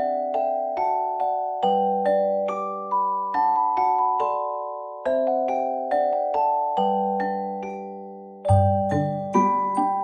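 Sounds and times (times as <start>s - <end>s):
gentle melody of ringing notes: 0.0s - 10.0s.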